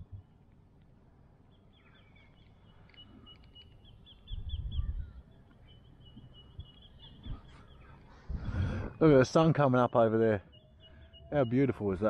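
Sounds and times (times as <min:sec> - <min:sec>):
birds calling: 0:01.4 - 0:12.0.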